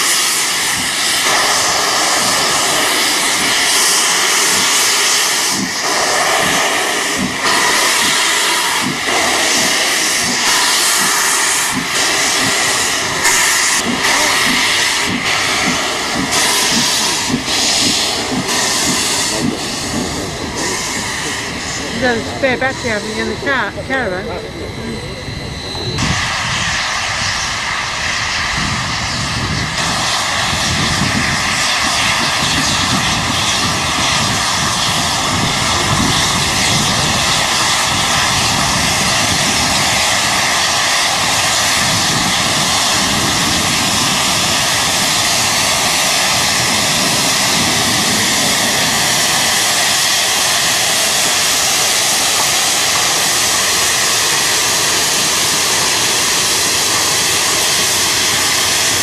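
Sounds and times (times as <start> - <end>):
biplane piston engine running: 0.0 - 59.0
steam locomotive passing: 0.0 - 59.0.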